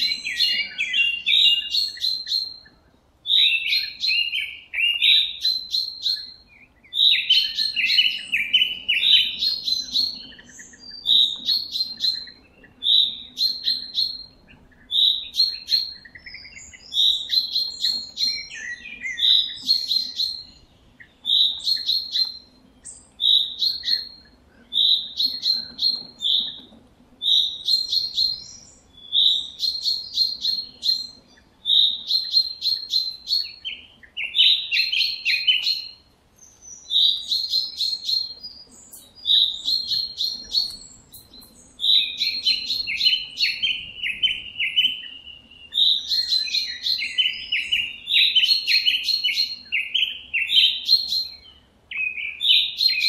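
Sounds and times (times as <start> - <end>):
songbird singing chirping phrases: 0.0 - 53.0.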